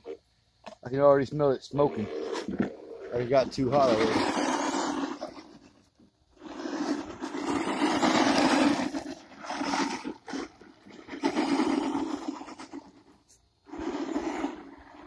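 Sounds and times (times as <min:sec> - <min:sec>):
tyres scrabbling on dirt: 0:01.9 - 0:15.0.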